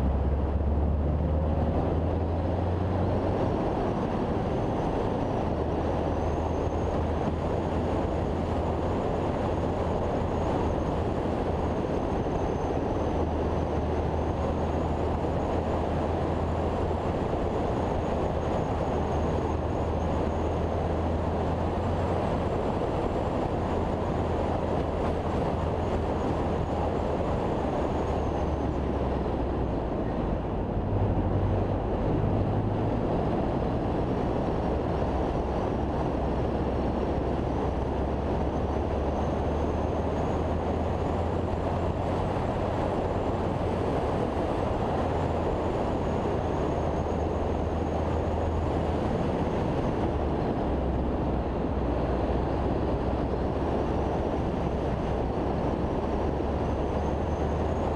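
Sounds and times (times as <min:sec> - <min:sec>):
car engine drone: 0:00.0 - 0:57.9.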